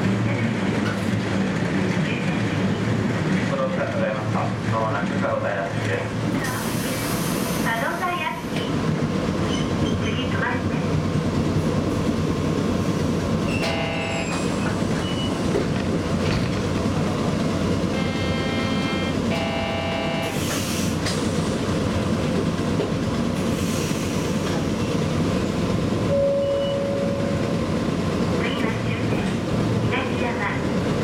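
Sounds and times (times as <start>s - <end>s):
tram rumble and hum: 0.0s - 31.0s.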